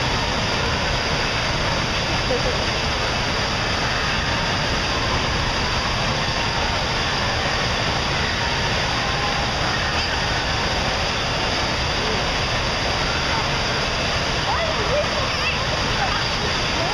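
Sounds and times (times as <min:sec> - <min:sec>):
hot tub jets rushing water: 0:00.0 - 0:16.9.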